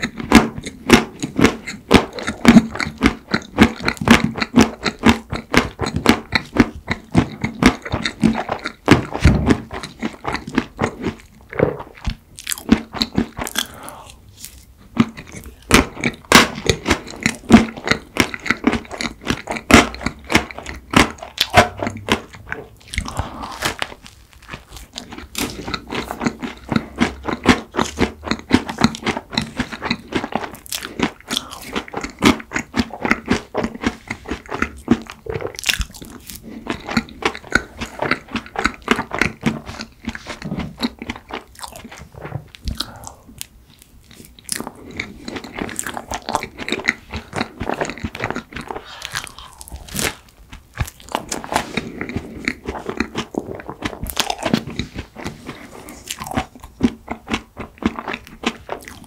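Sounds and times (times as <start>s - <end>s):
crisp crunching and wet chewing: 0.0s - 59.0s.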